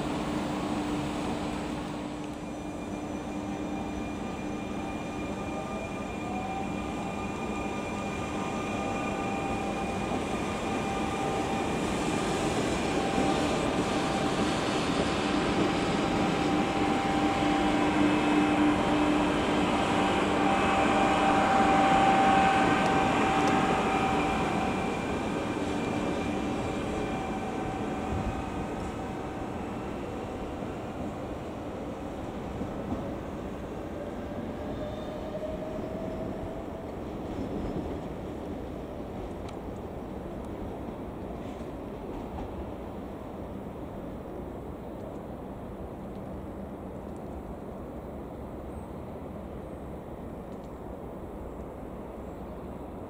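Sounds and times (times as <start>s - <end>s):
train moving through station: 0.0s - 53.0s.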